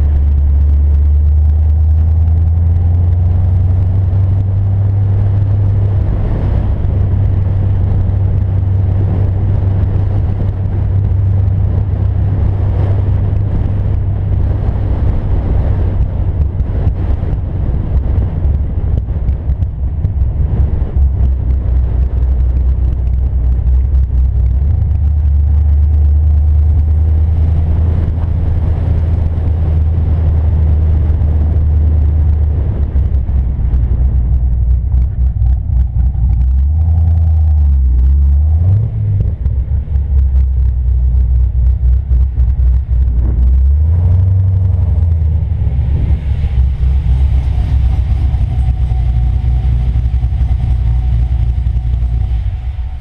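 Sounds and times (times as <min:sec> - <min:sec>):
car engine deep drone: 0:00.0 - 0:53.0.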